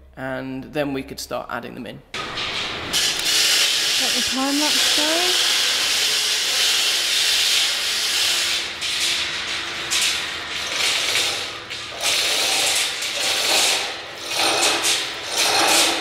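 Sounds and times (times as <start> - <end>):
mechanical rattling and clattering: 2.2 - 7.6, 8.2 - 16.0.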